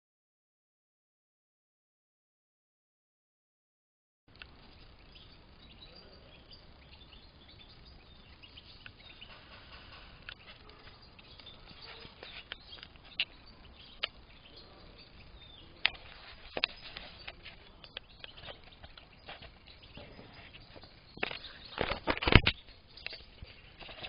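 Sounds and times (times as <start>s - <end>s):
finches twittering: 4.4s - 24.0s.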